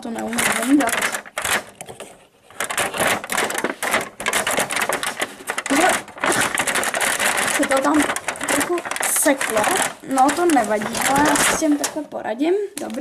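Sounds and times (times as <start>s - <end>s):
plastic toy pieces clicking: 0.0s - 12.0s.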